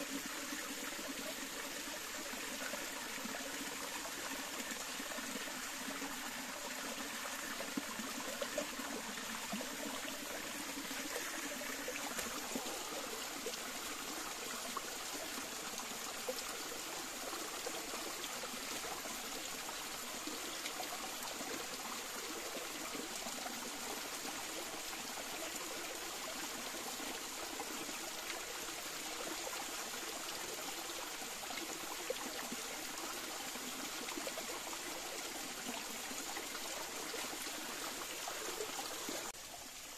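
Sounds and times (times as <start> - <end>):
stream splashing over stones: 0.0 - 39.9.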